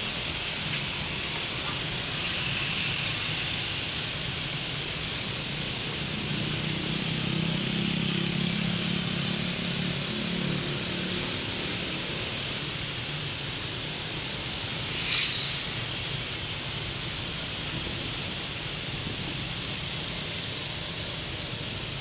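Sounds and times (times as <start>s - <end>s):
street traffic: 0.0s - 22.0s
train rumbling across bridge: 0.0s - 22.0s.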